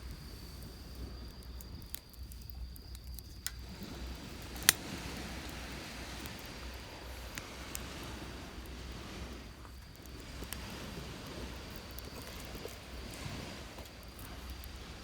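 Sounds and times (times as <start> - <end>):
campfire crackling and popping: 0.0 - 15.0
high insect trill: 0.0 - 15.0
low rumble of surf: 0.0 - 15.0.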